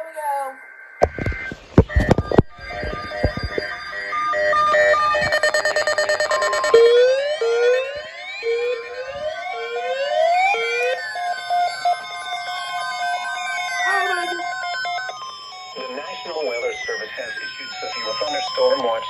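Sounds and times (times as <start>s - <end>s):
steady warning alarm tone: 0.1s - 19.0s
digital data bursts: 1.0s - 19.0s
rising siren-like sweep: 1.2s - 19.0s.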